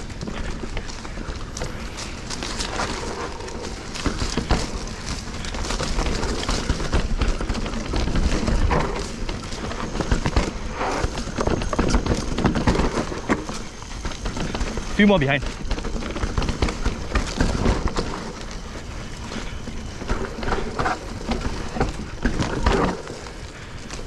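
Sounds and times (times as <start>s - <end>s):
bike rattling over rough trail: 0.0s - 24.0s.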